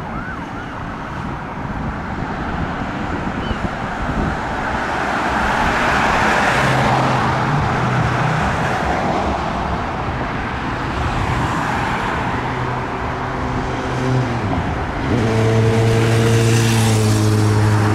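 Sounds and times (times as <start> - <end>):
cars passing on street: 0.0 - 17.9
vehicle engine humming: 0.0 - 17.9.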